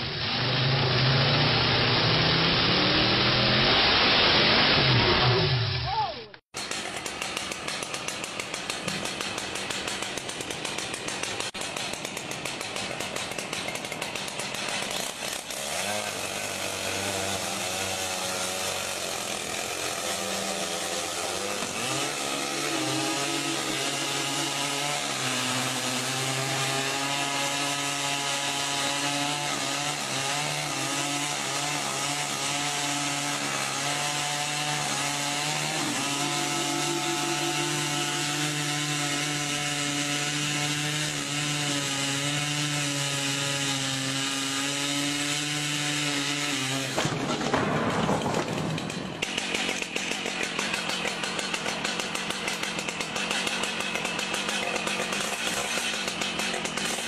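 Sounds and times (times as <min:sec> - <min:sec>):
heavy chainsaw engine throbbing: 0:00.0 - 0:05.9, 0:06.6 - 0:57.0
chainsaw sawing into wood: 0:00.0 - 0:57.0.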